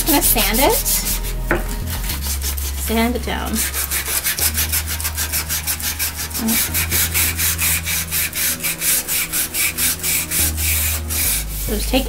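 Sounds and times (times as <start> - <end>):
sandpaper scratching on frame: 0.0 - 12.0.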